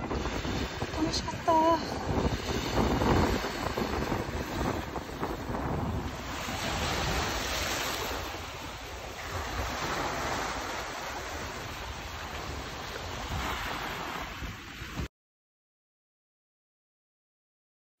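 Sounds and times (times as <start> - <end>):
waves washing on pebbly shore: 0.0 - 15.1
wind rumbling on microphone: 0.0 - 15.1.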